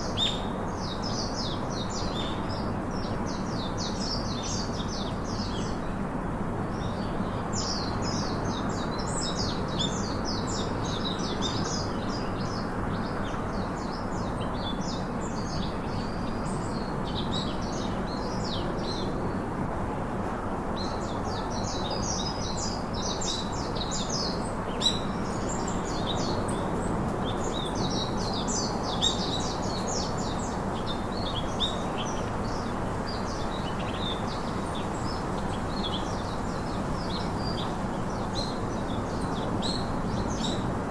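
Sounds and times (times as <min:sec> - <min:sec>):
small birds chirping: 0:06.7 - 0:19.6, 0:20.7 - 0:40.9.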